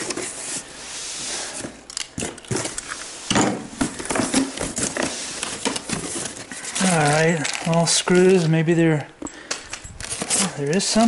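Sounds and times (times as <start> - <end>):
cardboard box and packaging rustling: 0.0 - 9.0, 9.9 - 11.0.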